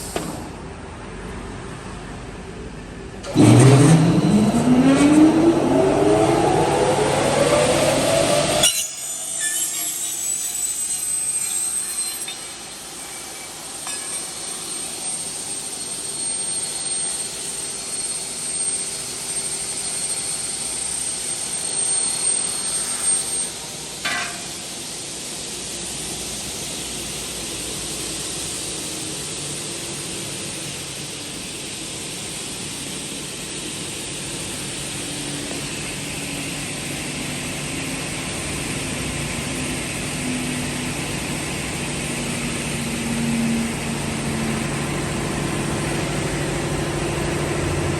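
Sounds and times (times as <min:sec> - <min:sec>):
cutting saw whining: 0:03.2 - 0:29.7, 0:30.4 - 0:47.9.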